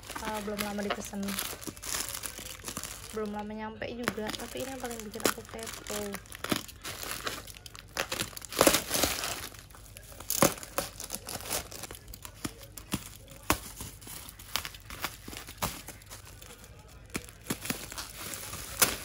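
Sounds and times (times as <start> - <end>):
plastic and bubble wrap crinkling: 0.0 - 19.0.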